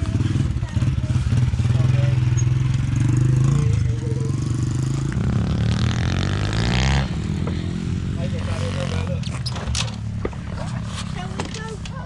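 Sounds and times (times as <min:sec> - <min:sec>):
mini-bike engine revving: 0:00.0 - 0:12.0.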